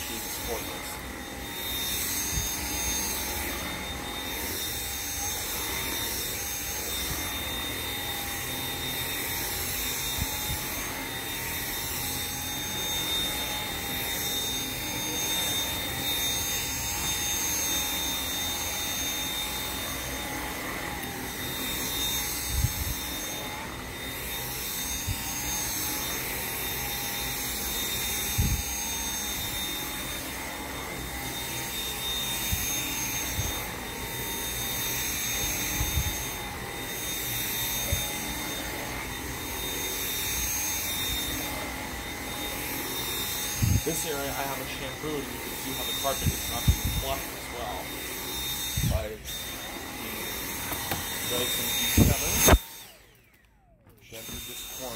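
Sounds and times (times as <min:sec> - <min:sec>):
vacuum cleaner on carpet: 0:00.0 - 0:54.9.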